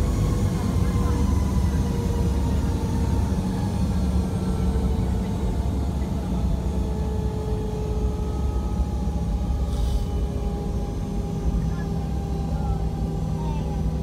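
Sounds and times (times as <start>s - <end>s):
jet engine low rumble and whine: 0.0s - 14.0s.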